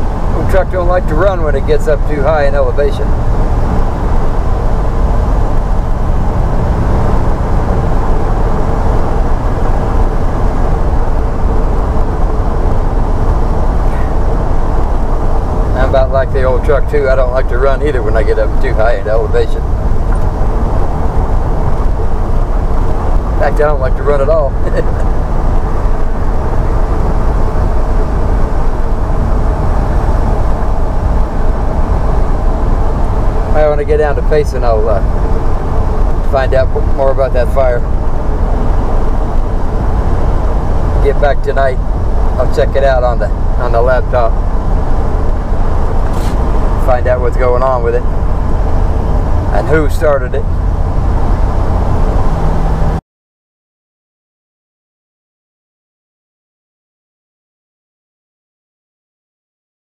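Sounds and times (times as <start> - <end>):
road noise: 0.0 - 53.0
truck engine: 0.0 - 53.0.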